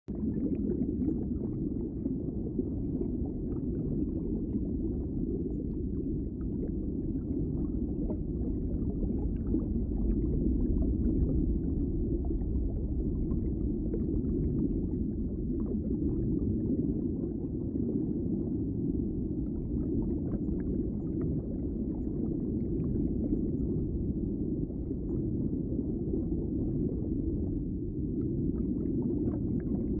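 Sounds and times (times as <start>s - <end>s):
muffled rumble of moving water: 0.1s - 30.0s.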